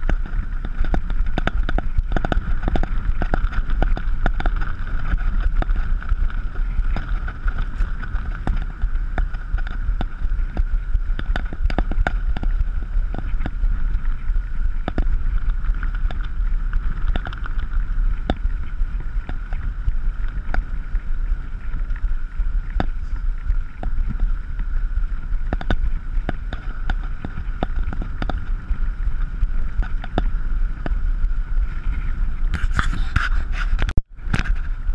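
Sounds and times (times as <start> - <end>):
bicycle clicks and knocks: 0.0 - 33.7
thin steady hum: 0.0 - 34.9
wind rumble on microphone: 0.0 - 34.9.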